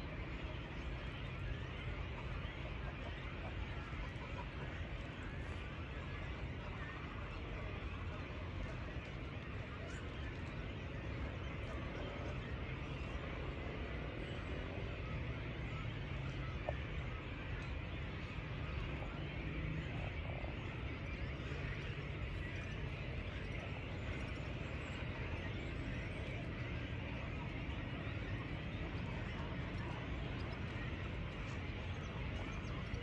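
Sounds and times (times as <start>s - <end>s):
frogs croaking: 0.0s - 33.0s.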